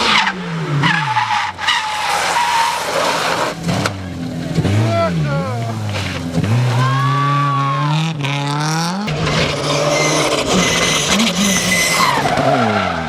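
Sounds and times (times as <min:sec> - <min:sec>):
rally car engine revving: 0:00.0 - 0:13.0
tyres rushing on gravel road: 0:00.0 - 0:13.0.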